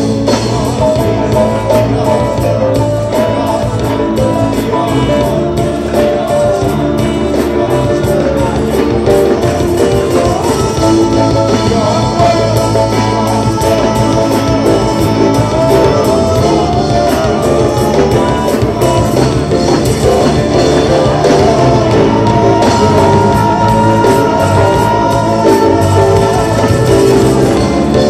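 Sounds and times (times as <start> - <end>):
rock band playing: 0.0 - 28.0
voices singing: 0.0 - 28.0.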